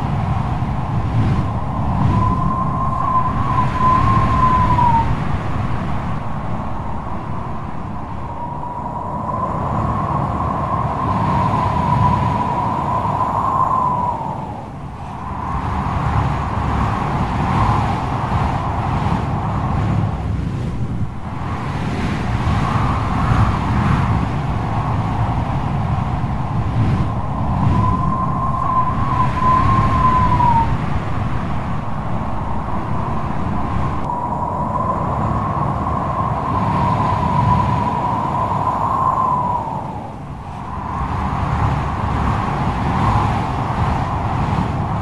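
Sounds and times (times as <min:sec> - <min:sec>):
heavy sea surf rumbling: 0:00.0 - 0:45.0
strong wind howling: 0:00.0 - 0:45.0.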